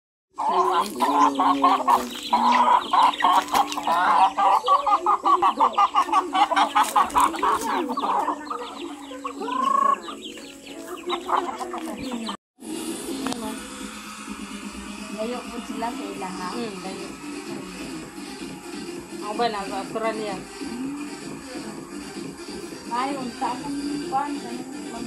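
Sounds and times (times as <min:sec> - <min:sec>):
chickens clucking: 0:00.4 - 0:12.4, 0:14.6 - 0:25.0.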